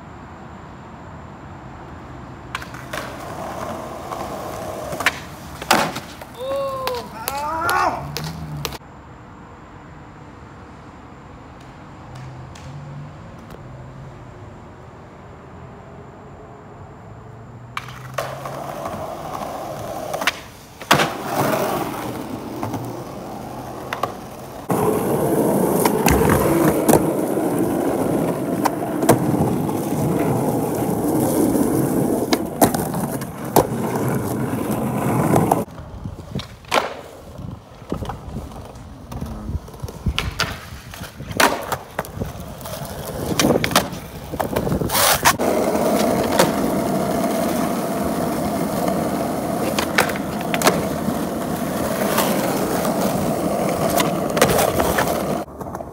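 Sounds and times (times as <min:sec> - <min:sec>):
skateboard wheels rolling on asphalt: 0:00.0 - 0:55.9
skateboard clacks: 0:02.5 - 0:08.8, 0:11.5 - 0:12.8, 0:17.7 - 0:55.9.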